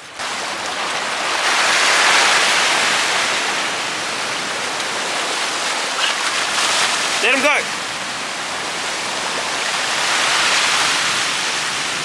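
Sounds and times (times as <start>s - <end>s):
waves breaking on rocks: 0.0s - 12.0s.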